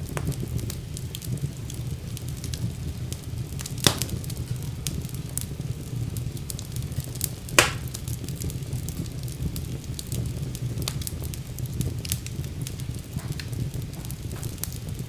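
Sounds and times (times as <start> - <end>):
burning logs popping: 0.0 - 15.0
fire rumbling and crackling: 0.0 - 15.0.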